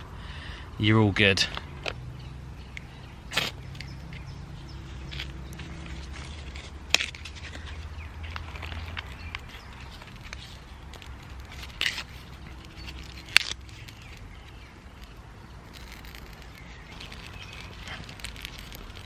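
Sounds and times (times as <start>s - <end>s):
woodland ambience: 0.0s - 19.0s.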